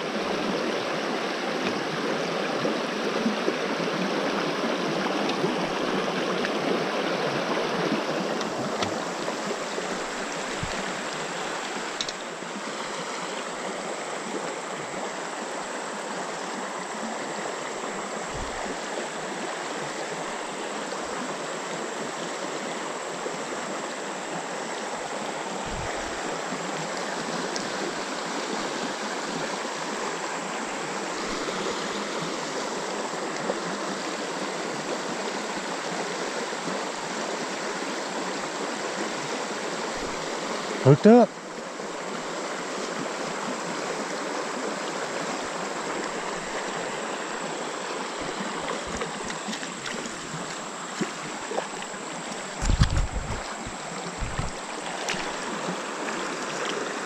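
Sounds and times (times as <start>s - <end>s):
creek water running: 0.0s - 57.0s.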